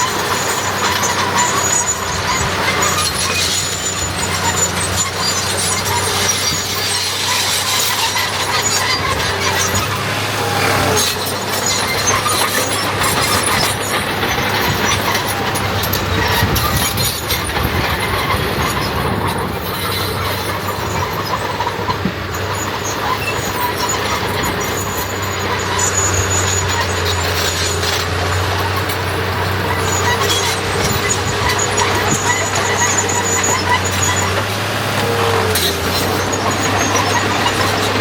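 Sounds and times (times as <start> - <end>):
clanks and squeaks: 0.0 - 38.0
heavy diesel engine running: 0.0 - 38.0.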